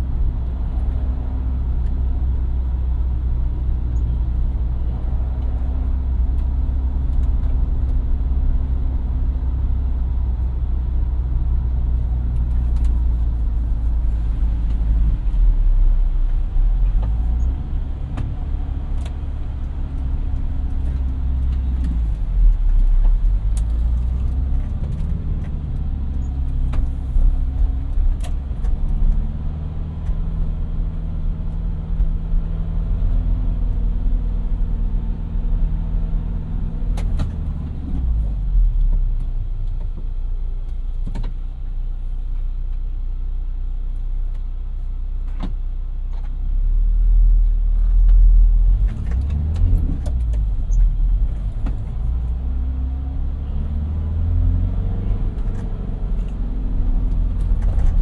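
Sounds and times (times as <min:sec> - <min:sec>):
road noise: 0:00.0 - 0:58.0
van engine rumble: 0:00.0 - 0:58.0.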